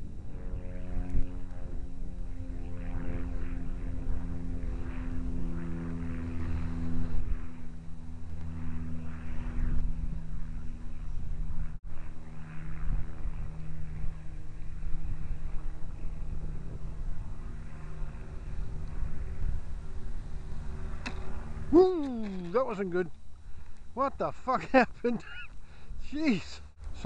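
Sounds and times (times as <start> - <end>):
propeller aircraft engine droning: 0.0 - 27.0.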